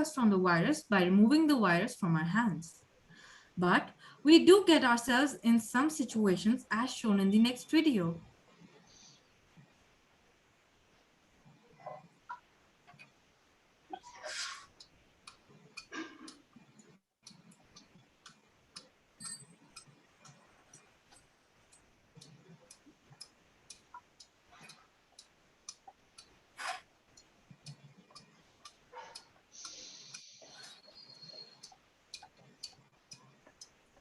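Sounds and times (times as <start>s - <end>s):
faint regular ticking: 0.0s - 14.0s, 14.6s - 34.0s.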